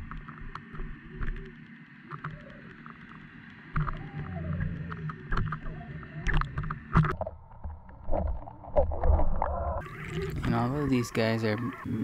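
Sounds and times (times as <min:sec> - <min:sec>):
underwater rumble: 0:00.0 - 0:12.0.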